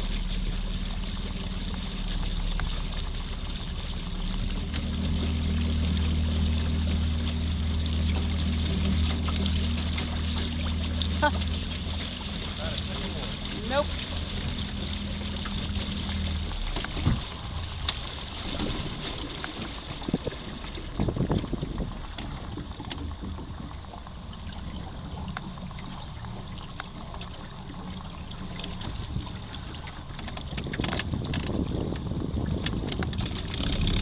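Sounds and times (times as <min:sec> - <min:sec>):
water washing along a hull: 0:00.0 - 0:34.0.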